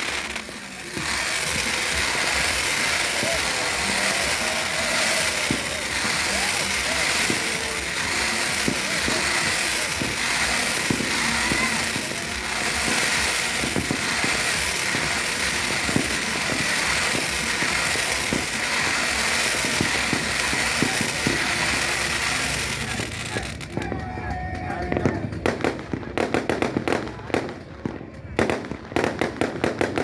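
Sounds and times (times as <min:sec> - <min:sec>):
fireworks crackling and popping: 0:00.0 - 0:30.0.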